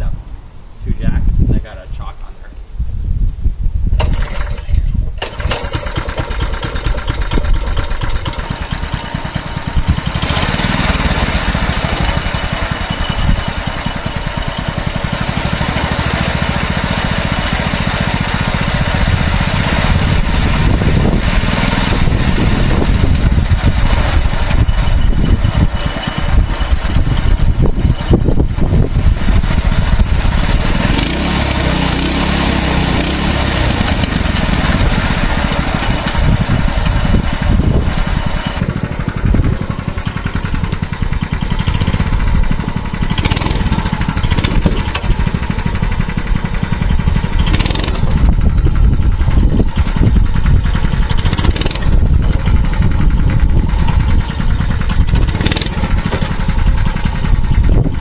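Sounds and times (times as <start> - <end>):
small engine revving: 4.0 - 58.0.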